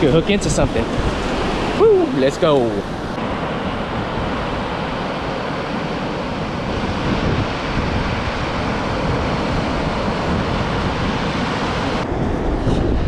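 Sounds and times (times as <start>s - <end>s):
surf on beach: 0.0s - 13.0s
wind: 0.0s - 13.0s
wind buffeting microphone: 0.0s - 13.0s.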